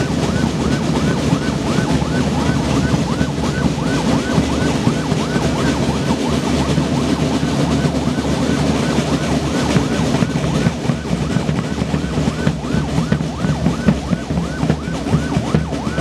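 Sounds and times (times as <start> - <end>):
marching drum band: 0.0 - 16.0
siren sweeping up and down: 0.0 - 16.0.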